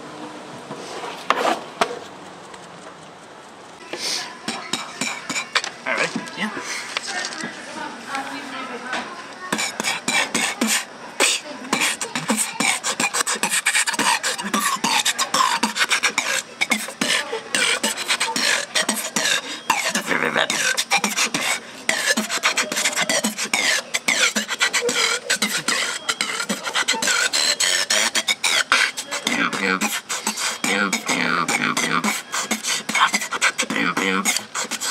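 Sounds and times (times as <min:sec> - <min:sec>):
person beatboxing: 0:04.0 - 0:06.6, 0:09.4 - 0:34.9.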